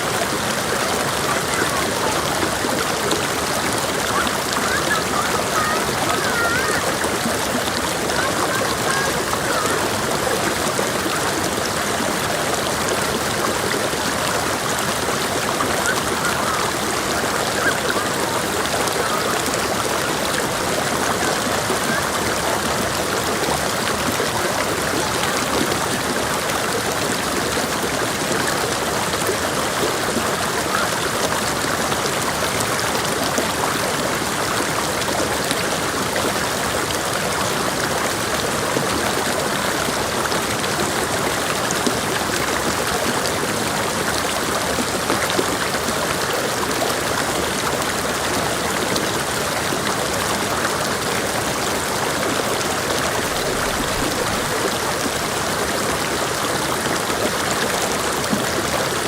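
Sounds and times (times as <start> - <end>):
creek water babbling over rocks: 0.0 - 59.0.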